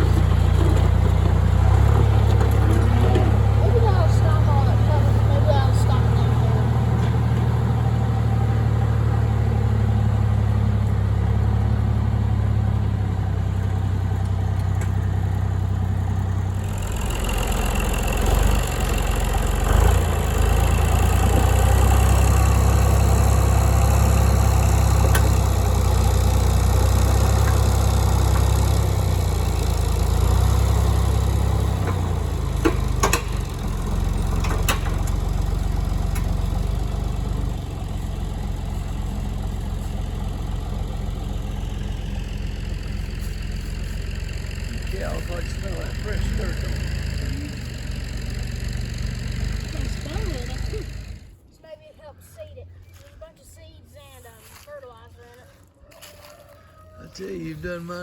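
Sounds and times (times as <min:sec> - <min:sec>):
vehicle engine running: 0:00.0 - 0:51.5, 0:57.0 - 0:58.0.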